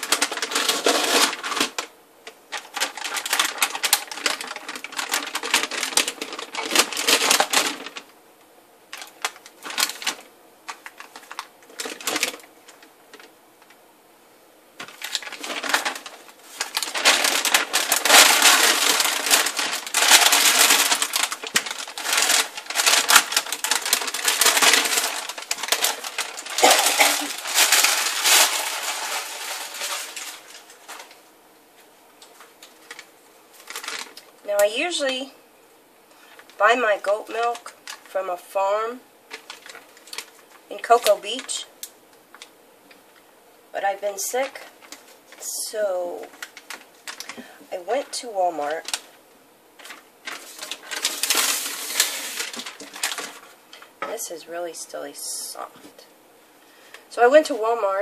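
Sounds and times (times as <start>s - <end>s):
soap mold crackling and rustling: 0.0s - 13.9s, 14.7s - 35.3s, 36.1s - 43.3s, 44.0s - 54.3s.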